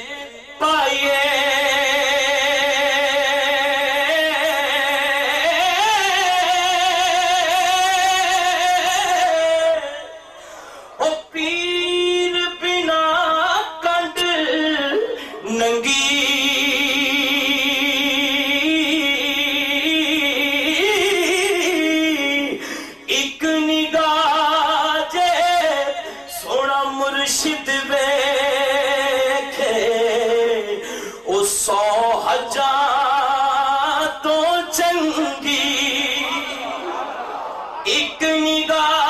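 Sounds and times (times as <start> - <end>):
man singing unaccompanied: 0.0 - 10.3, 11.0 - 36.9, 37.8 - 39.0.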